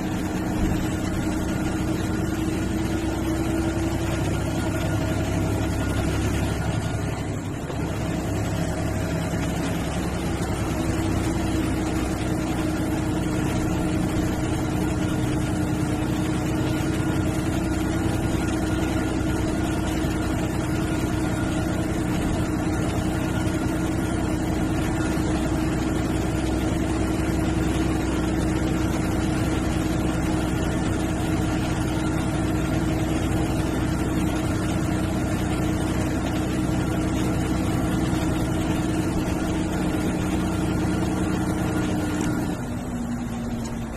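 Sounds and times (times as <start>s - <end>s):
bus diesel engine droning: 0.0s - 43.9s.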